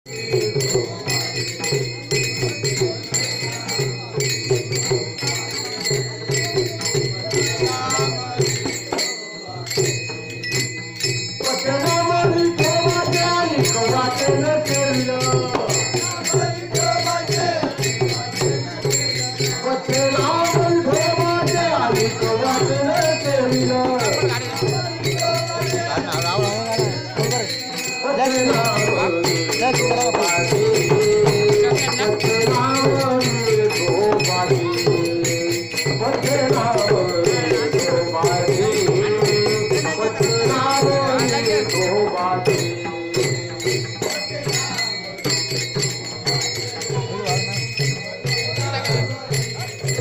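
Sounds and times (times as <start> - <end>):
barrel drum: 0.1 - 50.0
hand cymbals clashing: 0.1 - 50.0
men singing a chant: 0.1 - 50.0.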